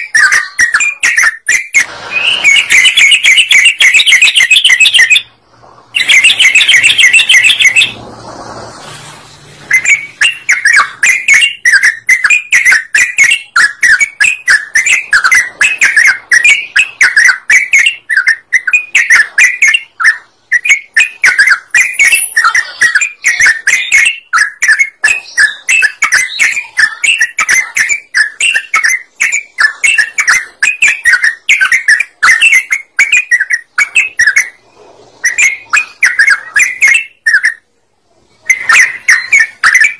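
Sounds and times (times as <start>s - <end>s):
bird singing bubbly chirps: 0.0s - 5.3s, 6.0s - 8.0s, 9.7s - 34.6s, 38.4s - 39.9s.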